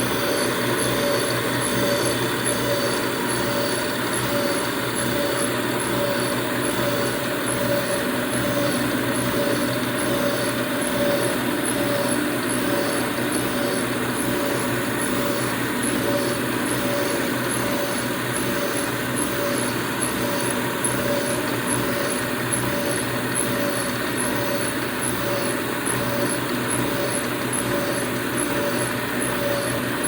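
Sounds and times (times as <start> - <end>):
milling machine whirring: 0.0 - 30.0.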